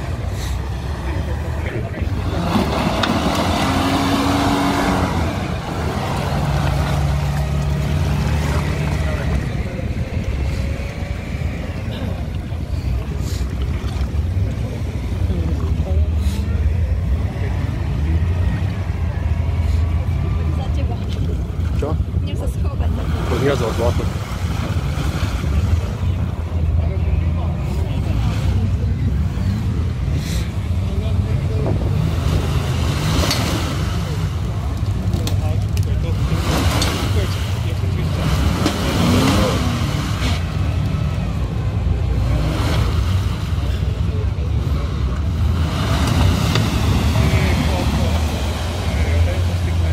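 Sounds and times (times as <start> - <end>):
engine rumbling under load: 0.0 - 49.9
tyres churning and splashing mud: 0.0 - 49.9.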